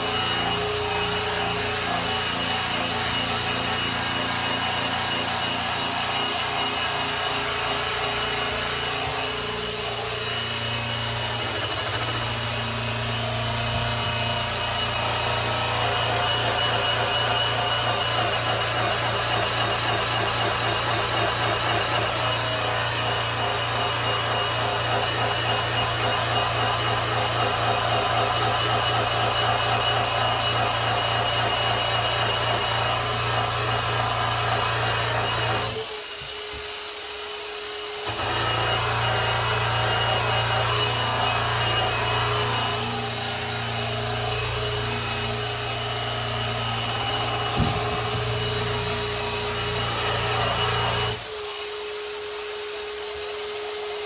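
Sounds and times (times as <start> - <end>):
electric polisher motor hum: 0.0 - 36.3, 38.0 - 52.4.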